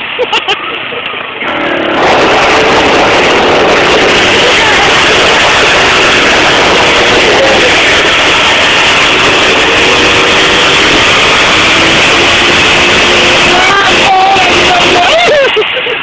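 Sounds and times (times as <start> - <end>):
motorcycle engine at high revs: 1.4 - 15.6.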